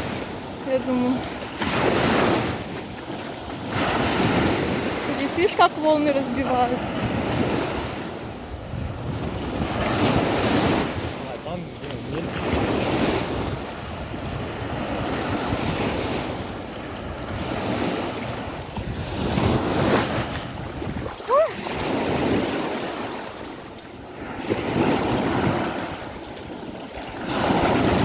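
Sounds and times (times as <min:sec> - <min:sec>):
waves breaking on shore: 0:00.0 - 0:28.0
wind buffeting microphone: 0:00.0 - 0:28.0.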